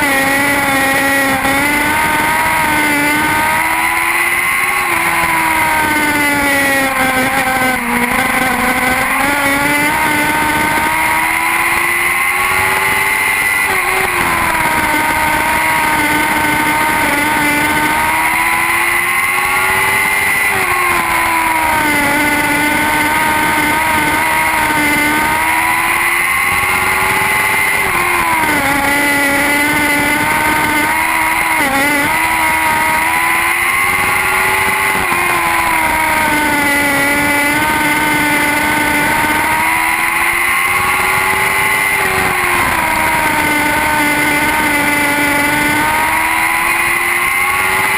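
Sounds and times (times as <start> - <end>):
racing car engines revving: 0.0 - 47.9.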